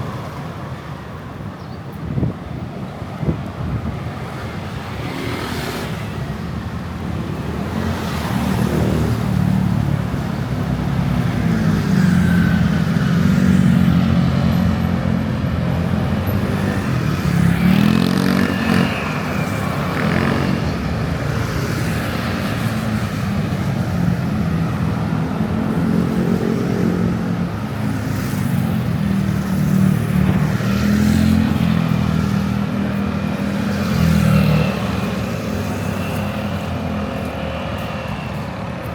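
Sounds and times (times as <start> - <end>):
vehicle engines passing: 2.0 - 38.9.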